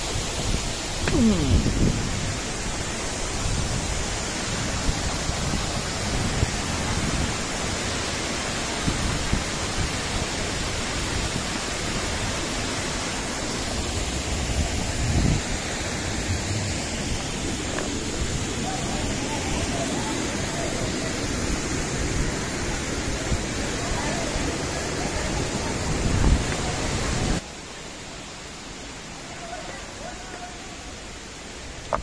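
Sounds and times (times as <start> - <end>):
stream rushing over rocks: 0.0 - 32.0
waterfall roaring: 0.0 - 32.0.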